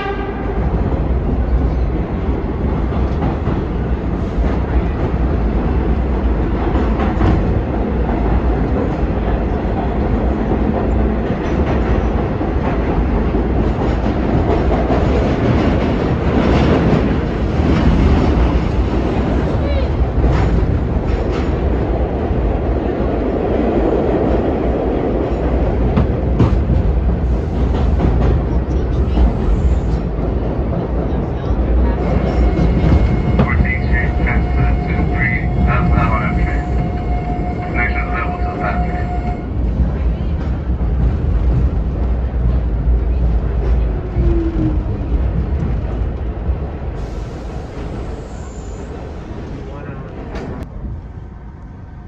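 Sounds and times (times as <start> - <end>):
sharp clacks of train: 0.0 - 51.2
subway train rumbling on rails: 0.0 - 52.0.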